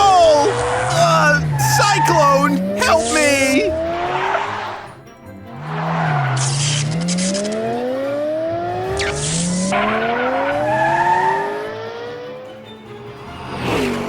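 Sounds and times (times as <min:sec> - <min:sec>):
cartoon race car engine revving: 0:00.0 - 0:14.0
tire screeches: 0:00.0 - 0:14.0.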